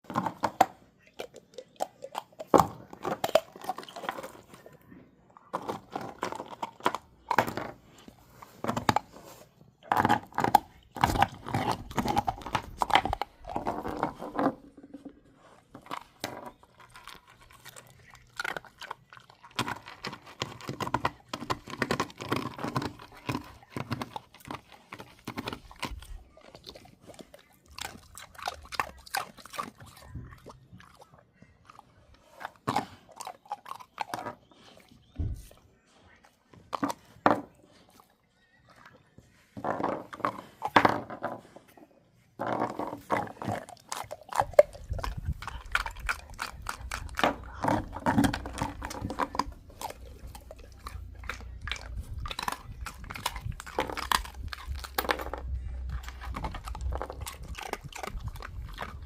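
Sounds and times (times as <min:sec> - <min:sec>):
dog chewing and crunching: 0:00.0 - 0:59.0.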